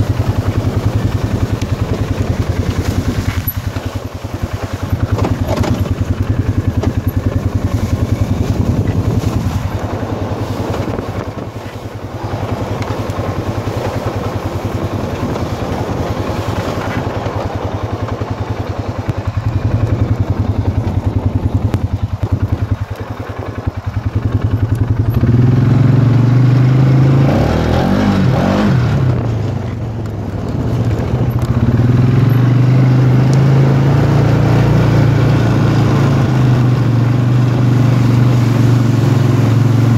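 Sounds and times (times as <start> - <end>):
single-cylinder engine revving: 0.0 - 39.9.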